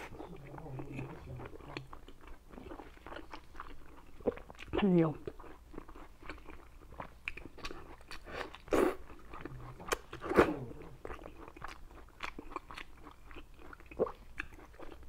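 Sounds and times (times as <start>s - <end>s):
wet sticky chewing: 0.0s - 15.0s.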